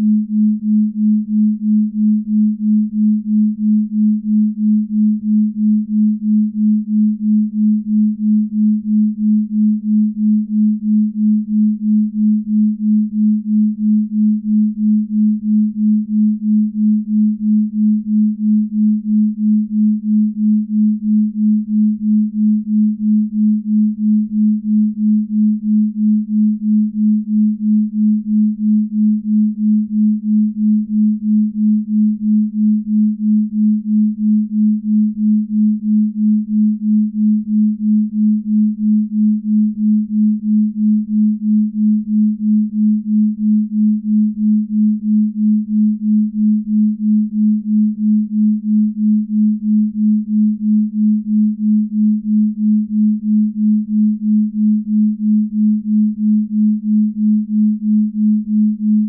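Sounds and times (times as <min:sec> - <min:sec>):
pulsing low pure tone: 0:00.0 - 0:59.0.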